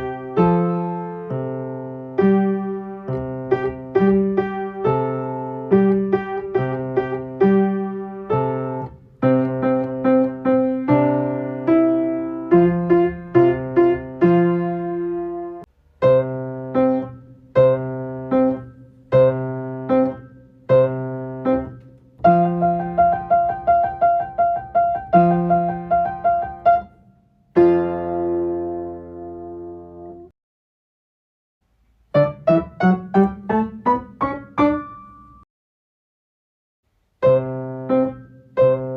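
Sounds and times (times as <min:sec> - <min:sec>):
solo piano playing chords: 0:00.0 - 0:30.3, 0:32.1 - 0:35.5, 0:37.2 - 0:38.9.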